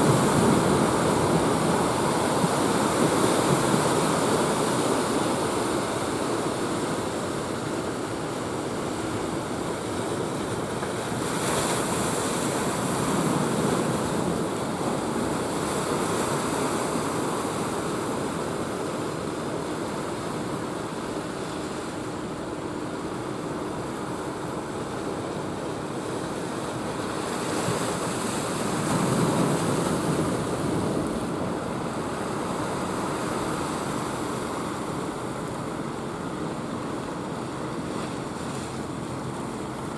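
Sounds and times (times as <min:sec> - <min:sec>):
waves breaking on a beach: 0:00.0 - 0:39.9
wind: 0:00.0 - 0:39.9.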